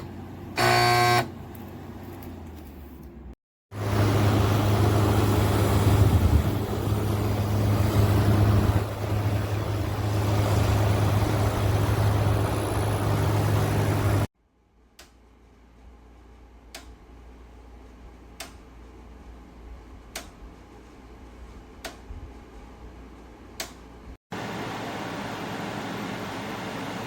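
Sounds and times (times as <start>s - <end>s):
air conditioner fan rushing: 0.0s - 14.3s, 15.3s - 27.0s.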